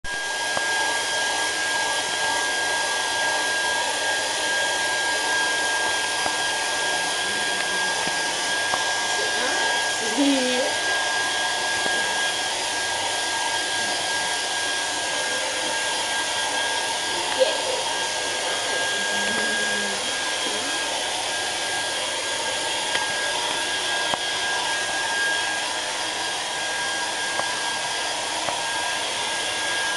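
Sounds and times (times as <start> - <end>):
hair dryer running: 0.0 - 29.9.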